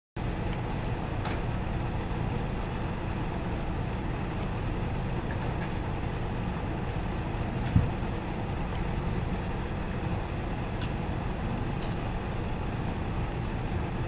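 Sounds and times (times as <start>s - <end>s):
low background rumble: 0.2s - 14.0s.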